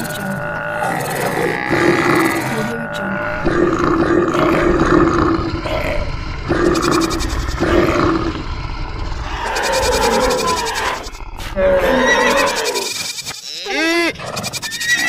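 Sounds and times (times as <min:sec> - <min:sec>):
animal roars: 0:00.0 - 0:15.0.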